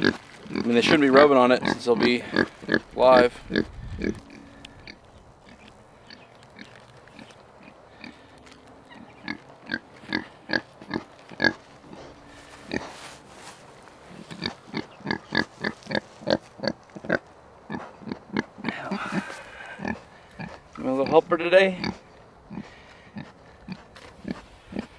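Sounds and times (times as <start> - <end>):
pig grunting: 0.0 - 13.0, 14.1 - 24.9.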